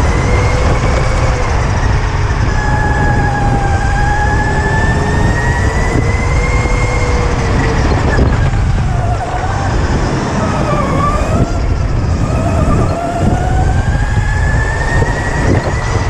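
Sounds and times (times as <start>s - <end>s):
electric motor whining: 0.0s - 16.0s
wind and track rumble: 0.0s - 16.0s.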